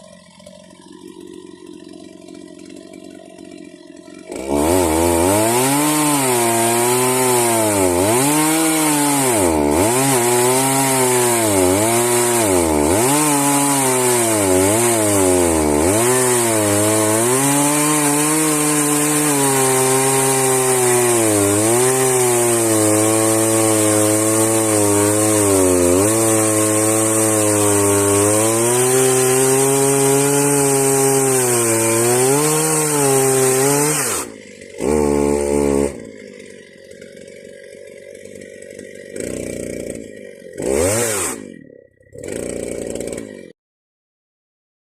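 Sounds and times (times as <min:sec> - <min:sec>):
chainsaw cutting log: 0:00.0 - 0:43.6.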